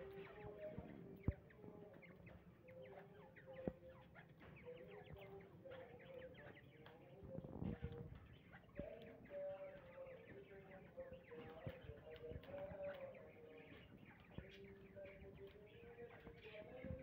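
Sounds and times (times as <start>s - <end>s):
caged birds chirping: 0.0s - 17.0s
low bird calls: 0.0s - 17.0s.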